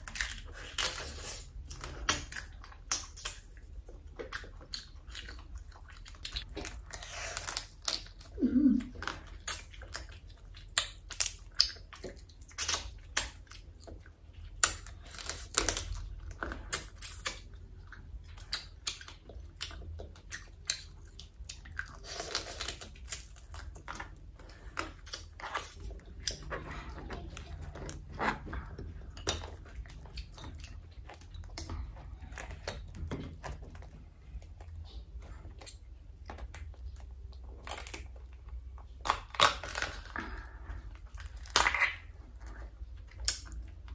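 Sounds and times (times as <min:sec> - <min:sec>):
chewing and crunching: 0:00.0 - 0:43.9.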